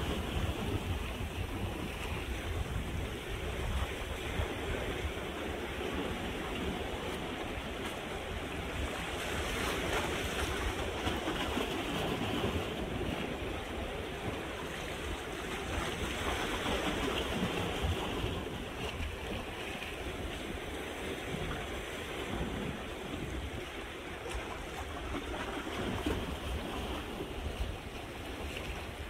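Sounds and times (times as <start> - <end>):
waves lapping against rocks: 0.0 - 29.0.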